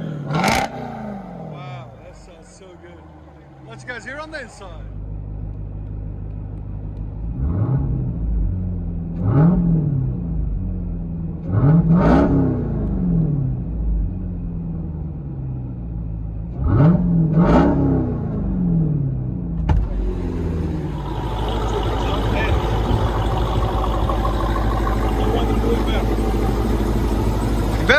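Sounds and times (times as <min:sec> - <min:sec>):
engine idling and revving: 0:00.0 - 0:27.9.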